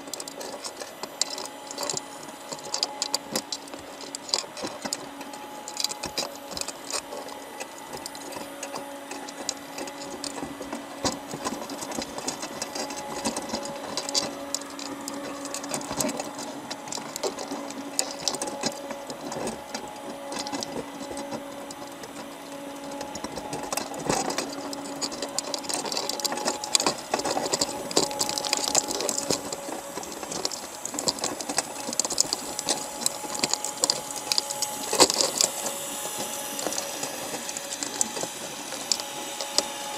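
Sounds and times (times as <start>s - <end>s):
crabs clicking underwater: 0.0s - 39.9s
steady low hum: 0.0s - 39.9s.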